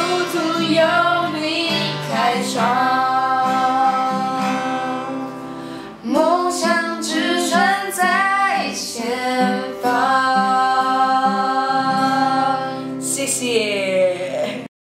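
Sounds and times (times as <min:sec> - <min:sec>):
strummed acoustic guitar: 0:00.0 - 0:14.7
woman singing: 0:00.0 - 0:14.7.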